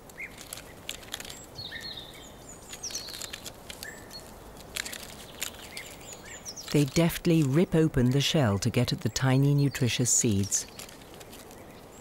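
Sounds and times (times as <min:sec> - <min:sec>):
squirrel gnawing cone scales: 0:00.0 - 0:12.0
small birds chirping: 0:00.1 - 0:12.0.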